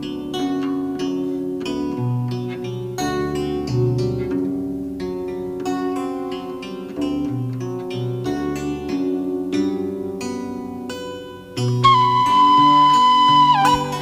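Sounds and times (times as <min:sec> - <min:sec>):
plucked guitar-like notes: 0:00.0 - 0:14.0.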